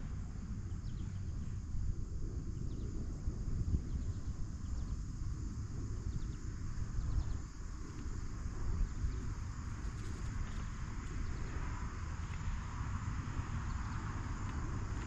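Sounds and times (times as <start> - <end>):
outdoor background hiss: 0.0 - 15.0
wind buffeting microphone: 0.0 - 15.0.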